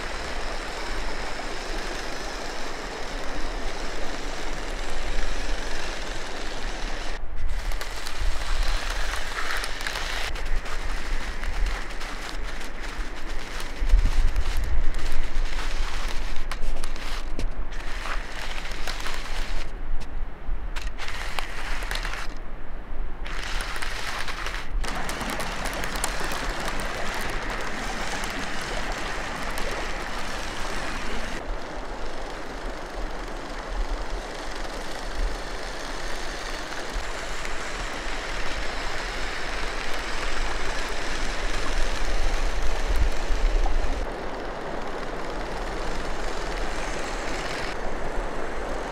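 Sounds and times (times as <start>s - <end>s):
toy electric motors whirring: 0.0s - 19.7s, 20.8s - 22.4s, 23.3s - 47.8s
plastic tracks over snow and stones: 0.0s - 20.0s, 20.7s - 22.4s, 23.2s - 48.9s.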